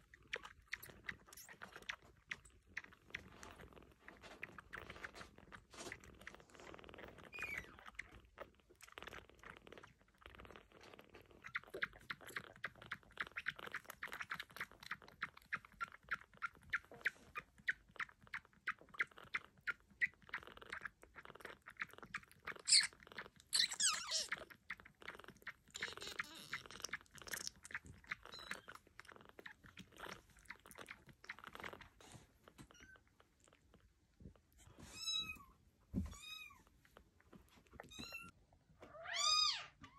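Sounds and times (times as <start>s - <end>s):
kitten sucking on bottle: 0.0s - 35.2s, 36.7s - 38.3s
kitten squeaks: 0.2s - 3.8s, 4.4s - 32.0s, 32.6s - 33.2s, 34.9s - 35.5s, 36.1s - 36.7s, 37.8s - 38.4s, 39.0s - 39.9s.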